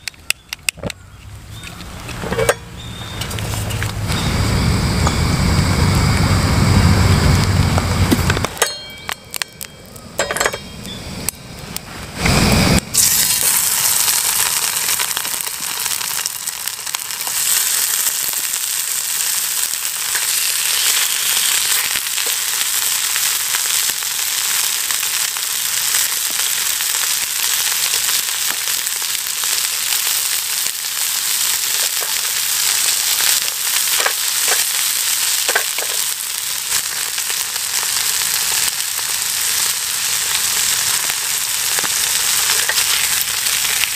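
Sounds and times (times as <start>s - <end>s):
pork sizzling in oil: 2.1s - 43.9s.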